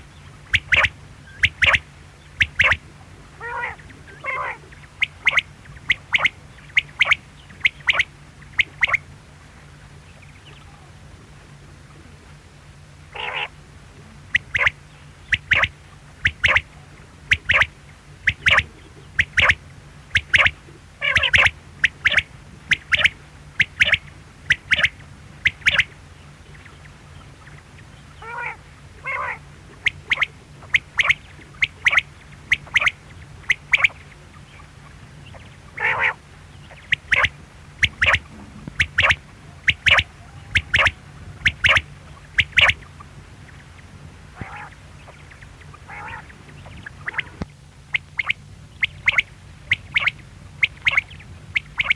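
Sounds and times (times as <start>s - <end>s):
quail calling: 0.0s - 9.1s, 13.1s - 13.6s, 14.3s - 51.9s
low hum: 0.0s - 51.9s.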